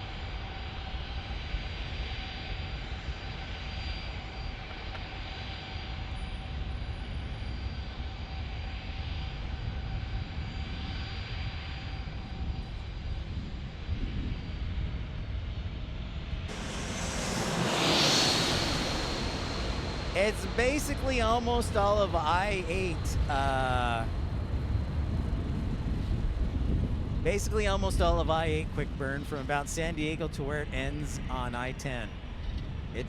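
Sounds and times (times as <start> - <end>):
jet engines running: 0.0 - 33.0.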